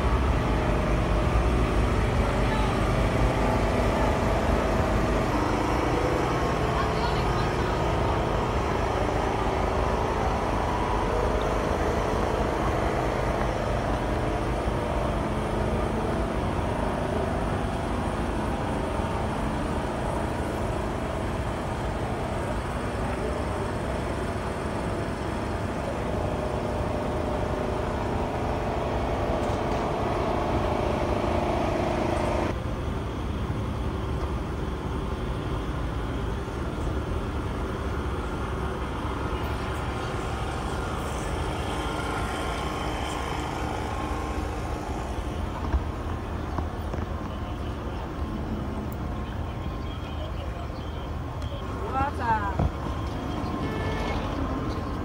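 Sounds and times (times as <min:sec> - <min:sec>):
distant road traffic rumble: 0:00.0 - 0:55.0.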